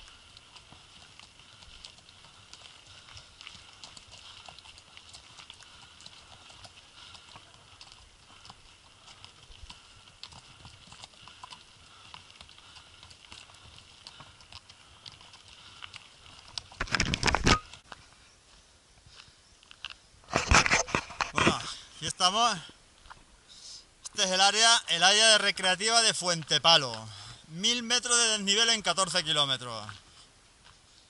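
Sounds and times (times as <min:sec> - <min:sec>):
hooves clopping on gravel: 0:00.0 - 0:23.3, 0:24.1 - 0:31.0.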